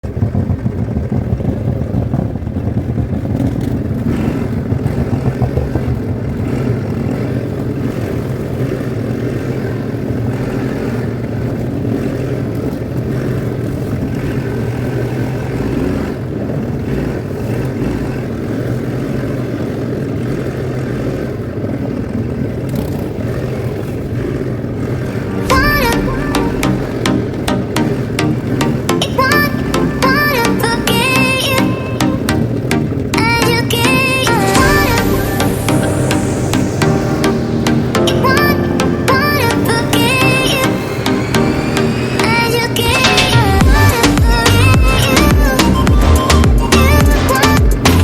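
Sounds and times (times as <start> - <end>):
quad bike engine drone: 0.0 - 48.0.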